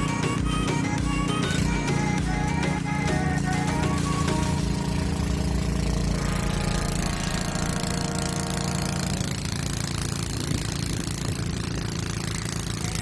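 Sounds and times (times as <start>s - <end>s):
snow blower engine running: 0.0s - 13.0s.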